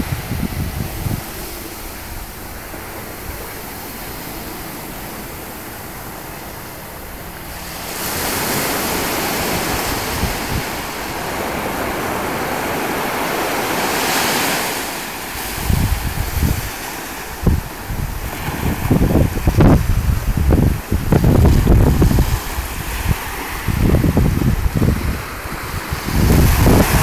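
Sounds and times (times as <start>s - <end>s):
surf washing onto sand: 0.0s - 27.0s
wind buffeting microphone: 0.0s - 27.0s.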